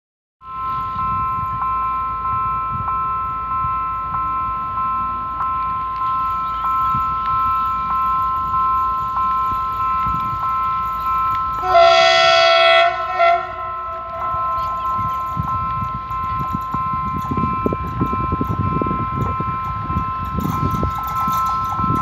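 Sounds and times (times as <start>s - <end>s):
level-crossing warning bell ringing: 0.4s - 22.0s.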